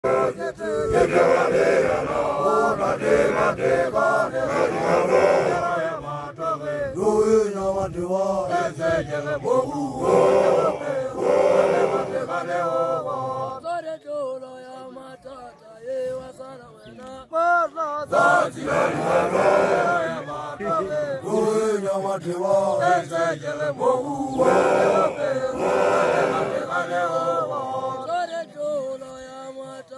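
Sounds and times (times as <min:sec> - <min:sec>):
men chanting in unison: 0:00.0 - 0:29.9.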